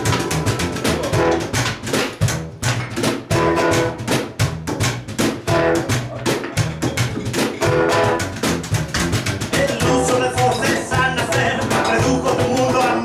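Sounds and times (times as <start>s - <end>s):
fast percussive beat: 0.0s - 13.0s
hollow-body guitar strumming chords: 0.0s - 13.0s.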